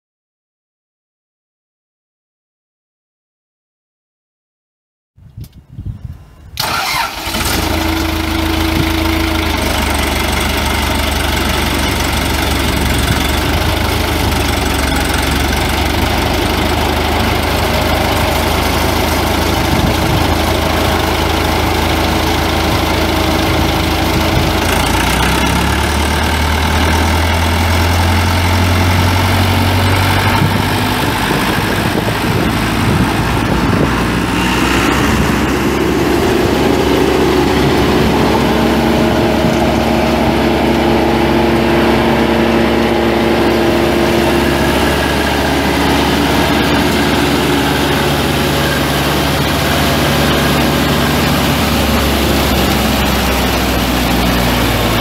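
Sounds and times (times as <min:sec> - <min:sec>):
diesel engine cranking and starting: 0:06.6 - 0:55.0
diesel engine running: 0:06.6 - 0:55.0.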